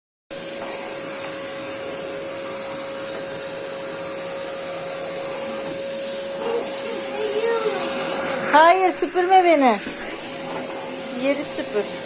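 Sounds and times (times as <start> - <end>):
vacuum cleaner running: 0.3 - 12.0.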